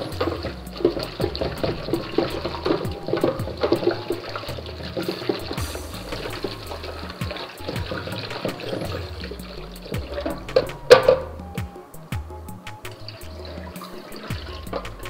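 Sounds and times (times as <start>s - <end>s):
hands washing food: 0.0s - 15.0s.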